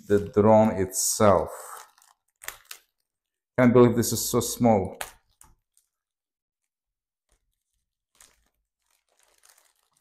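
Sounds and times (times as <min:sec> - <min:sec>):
soft wrap rustling and crinkling: 0:00.0 - 0:10.0.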